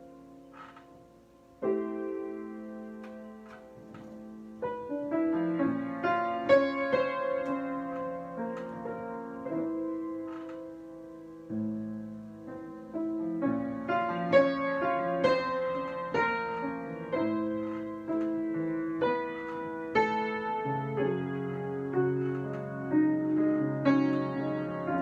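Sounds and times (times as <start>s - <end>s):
slow solo piano chords: 0.0s - 25.0s.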